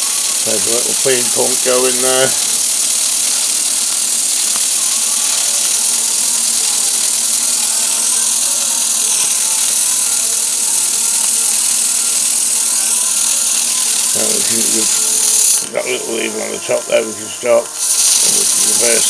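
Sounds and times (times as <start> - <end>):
steam engine mechanical buzz: 0.0 - 19.0
steam hissing: 0.0 - 19.0.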